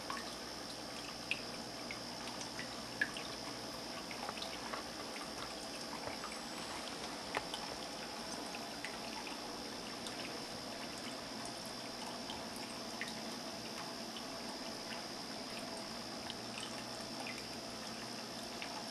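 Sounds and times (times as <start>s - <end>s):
small water drips: 0.0s - 18.9s
water trickling over ceramic: 0.0s - 18.9s.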